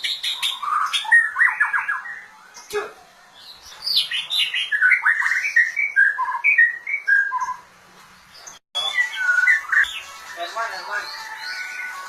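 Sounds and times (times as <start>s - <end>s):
bird singing whistled notes: 0.0s - 2.7s, 3.4s - 7.7s, 8.4s - 12.0s.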